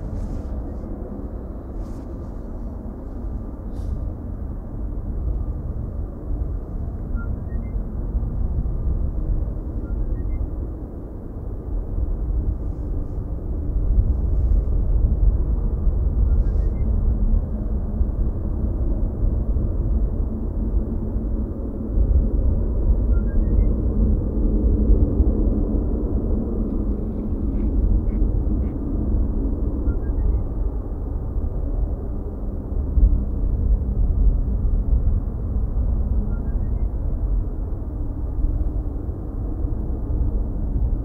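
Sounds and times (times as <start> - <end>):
jet engines rumbling: 0.0 - 41.0.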